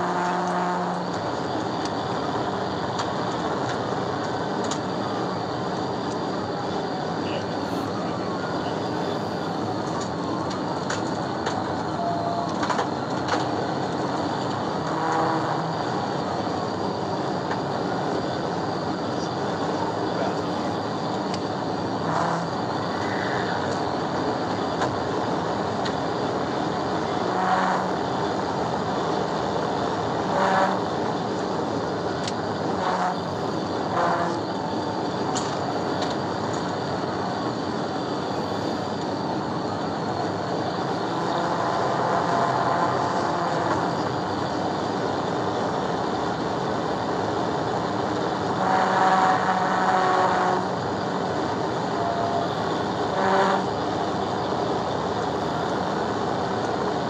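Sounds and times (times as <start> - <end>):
road and wind noise: 0.0 - 57.0.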